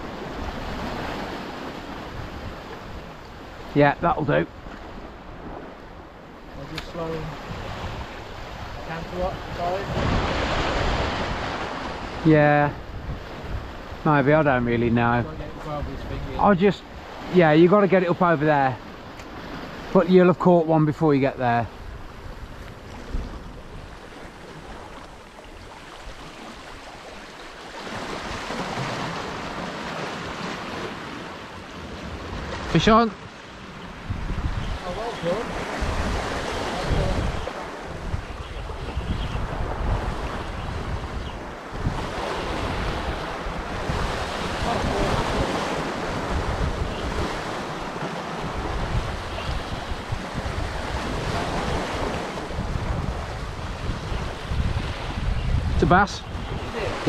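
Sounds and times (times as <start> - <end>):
surf washing against rocks: 0.0 - 57.0
wind buffeting microphone: 0.0 - 57.0.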